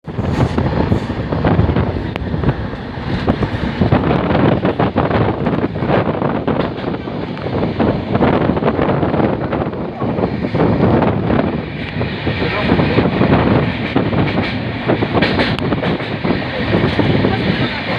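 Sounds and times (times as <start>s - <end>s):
moving train rumble and clatter: 0.0s - 17.9s
wind buffeting microphone: 0.0s - 17.9s.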